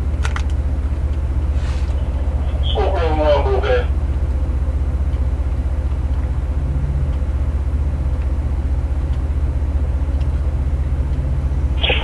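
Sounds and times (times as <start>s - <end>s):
motor droning: 0.7s - 12.0s.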